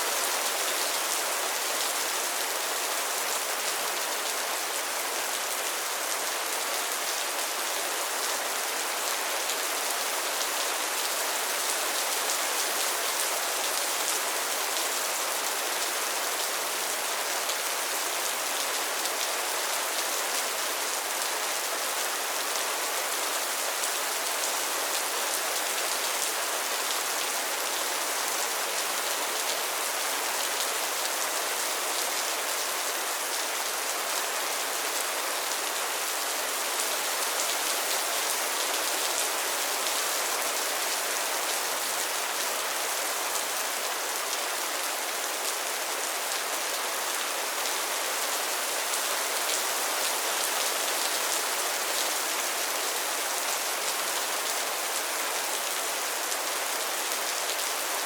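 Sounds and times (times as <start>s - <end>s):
rain falling on pond water: 0.0s - 58.0s.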